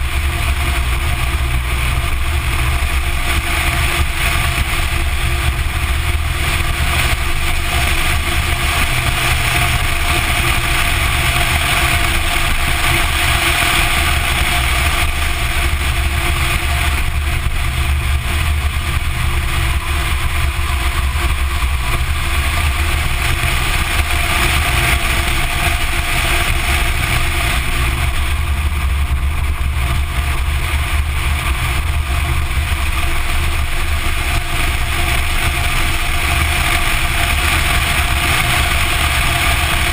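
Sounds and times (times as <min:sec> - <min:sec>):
car engine running: 0:00.0 - 0:39.9
tyre and road noise: 0:00.0 - 0:39.9
wind rush on microphone: 0:00.0 - 0:39.9.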